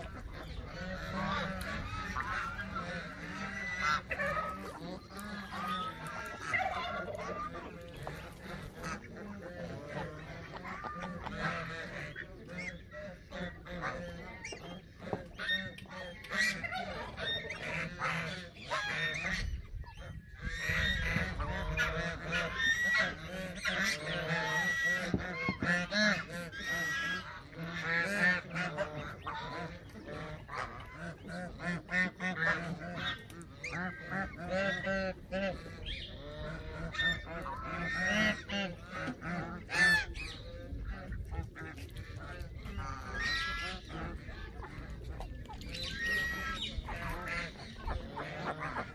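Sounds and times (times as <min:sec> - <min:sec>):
ducks: 0:00.0 - 0:48.9
geese honking: 0:00.0 - 0:48.9.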